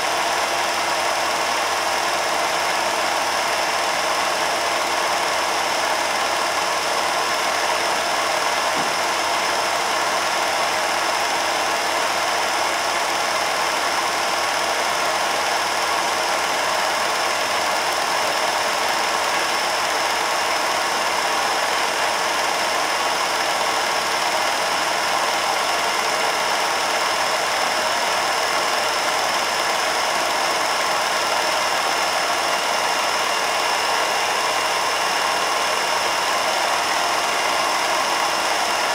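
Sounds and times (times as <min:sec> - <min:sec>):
film projector whirr and clatter: 0:00.0 - 0:38.9.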